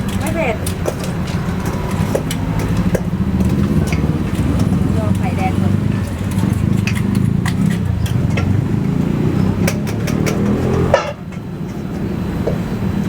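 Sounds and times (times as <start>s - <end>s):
sharp clicks and taps: 0.0s - 12.6s
vehicle engine idling: 0.0s - 13.0s.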